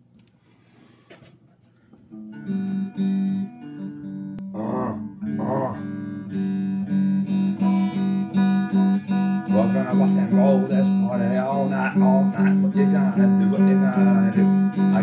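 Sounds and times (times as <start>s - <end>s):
electric guitar riff: 2.1s - 15.0s.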